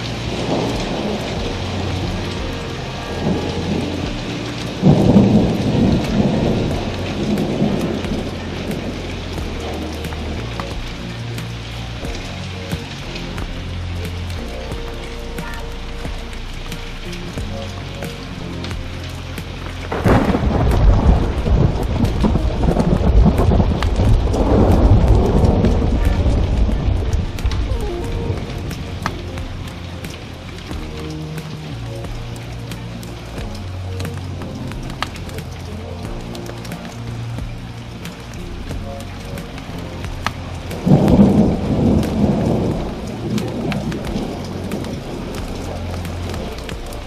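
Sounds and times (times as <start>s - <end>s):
heavy rain: 0.0s - 47.0s
thunderclap rumbling: 0.0s - 47.0s.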